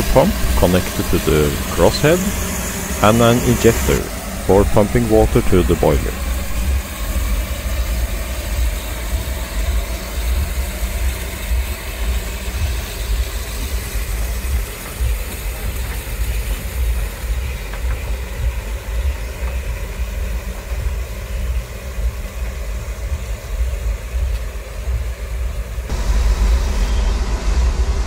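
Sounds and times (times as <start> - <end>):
steam locomotive rumble and hiss: 0.0 - 28.0.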